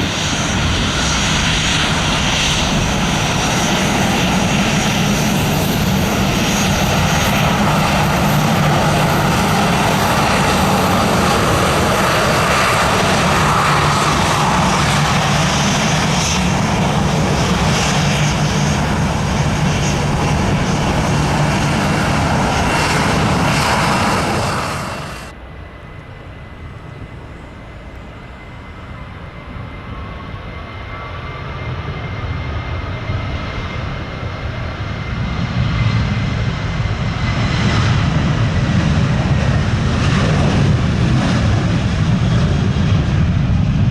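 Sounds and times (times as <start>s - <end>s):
jet engines droning: 0.0s - 43.9s
quieter aircraft sound: 0.0s - 43.9s.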